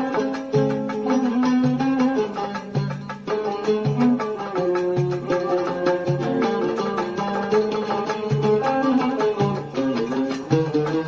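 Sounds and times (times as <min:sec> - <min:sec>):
plucked string ensemble melody: 0:00.0 - 0:11.0.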